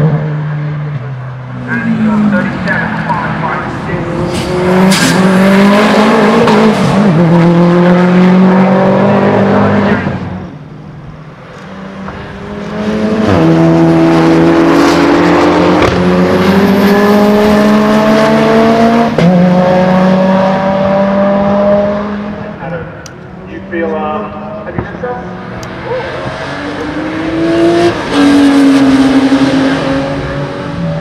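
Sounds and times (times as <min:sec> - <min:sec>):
race car passing at high revs: 0:00.0 - 0:31.0
car accelerating through gears: 0:01.6 - 0:10.4, 0:11.5 - 0:22.6, 0:25.2 - 0:31.0.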